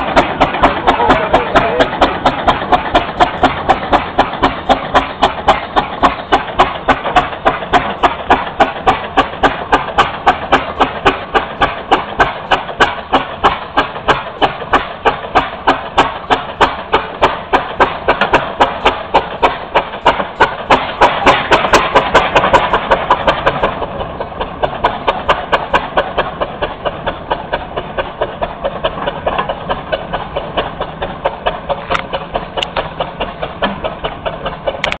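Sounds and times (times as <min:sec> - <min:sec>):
steam engine exhaust chuffing: 0:00.0 - 0:35.0.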